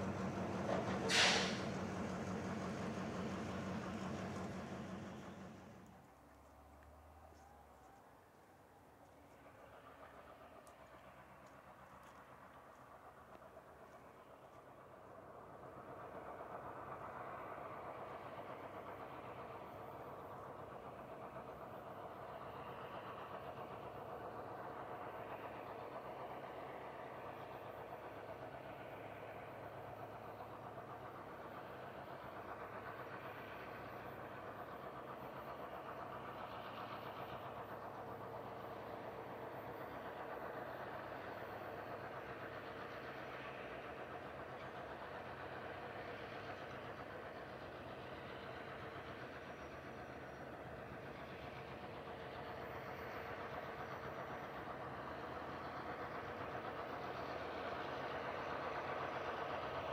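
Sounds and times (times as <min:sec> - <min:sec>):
locomotive engines droning: 0:00.0 - 0:59.9.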